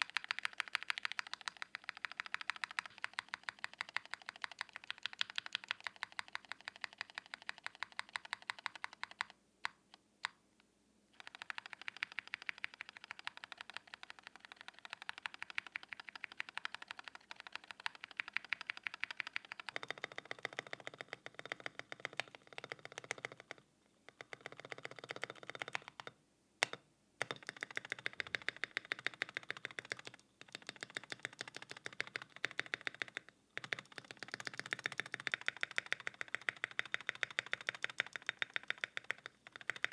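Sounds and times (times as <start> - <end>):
mechanical keyboard typing: 0.0 - 10.4, 11.1 - 39.9.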